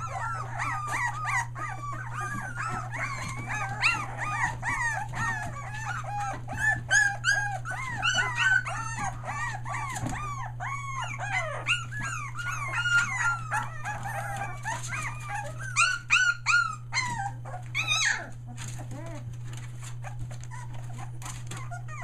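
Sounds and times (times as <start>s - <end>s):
puppy yips: 0.0s - 19.2s, 20.0s - 22.0s
puppies whining and crying: 0.0s - 22.0s.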